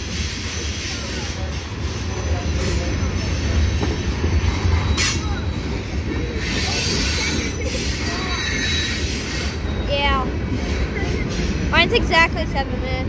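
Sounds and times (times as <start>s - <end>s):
freight train cars rolling: 0.0s - 13.0s.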